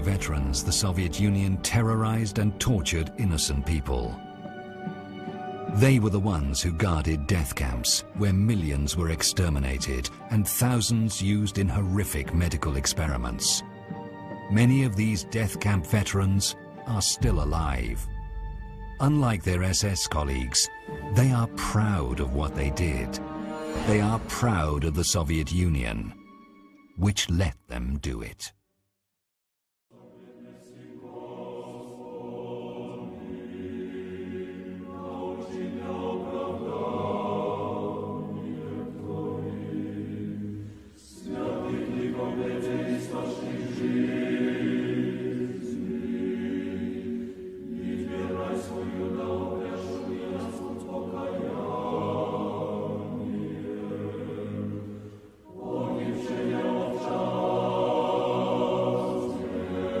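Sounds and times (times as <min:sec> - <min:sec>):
choir singing a cappella chant: 0:00.0 - 0:19.5, 0:20.1 - 0:25.6, 0:29.9 - 1:00.0.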